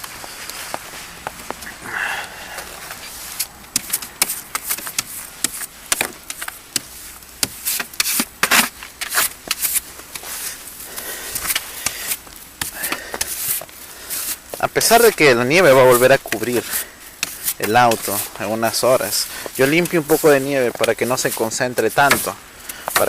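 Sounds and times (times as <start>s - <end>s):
brushing snow off a car: 0.0s - 23.0s.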